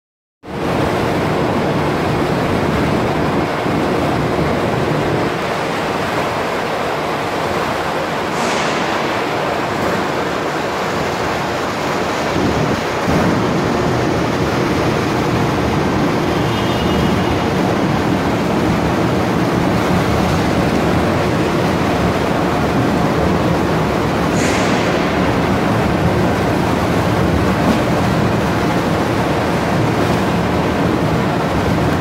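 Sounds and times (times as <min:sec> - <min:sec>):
belt conveyor running: 0:00.6 - 0:32.0.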